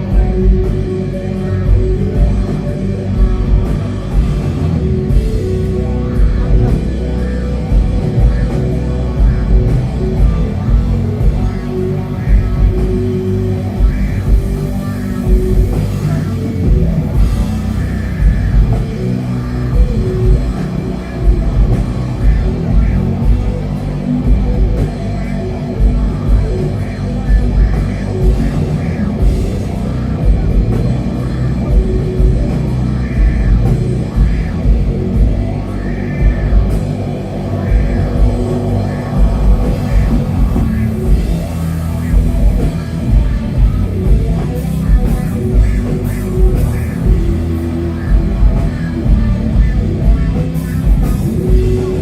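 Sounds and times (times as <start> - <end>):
metal band playing live: 0.0 - 52.0.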